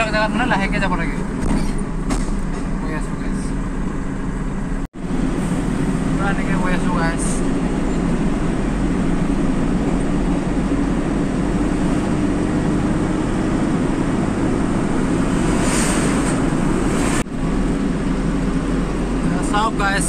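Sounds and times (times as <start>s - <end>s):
truck engine and tyre drone: 0.0s - 20.0s
oncoming truck passing: 3.4s - 19.8s.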